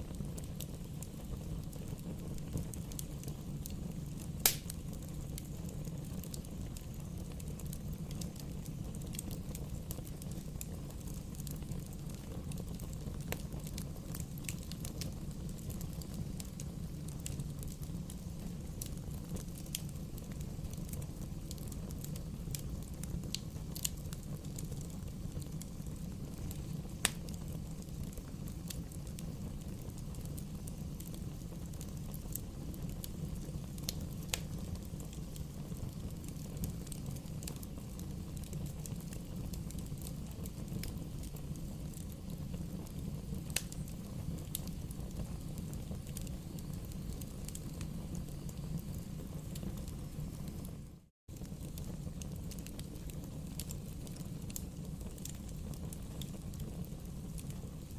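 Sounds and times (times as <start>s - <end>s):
bonfire rumble: 0.0s - 57.9s
burning wood popping: 0.1s - 50.6s.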